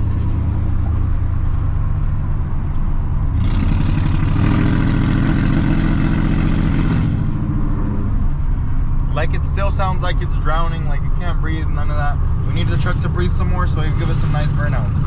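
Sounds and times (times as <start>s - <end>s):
truck engine running rough: 0.0s - 15.0s.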